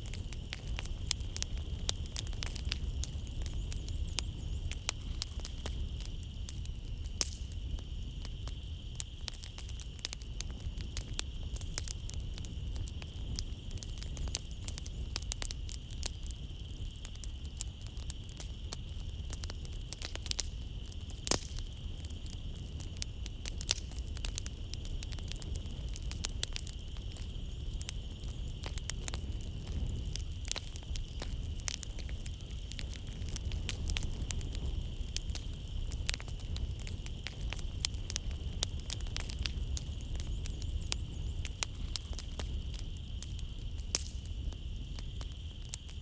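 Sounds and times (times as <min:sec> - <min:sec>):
flames rumbling: 0:00.0 - 0:46.0
night insects chirring: 0:00.0 - 0:46.0
wood fire crackling and popping: 0:00.0 - 0:46.0.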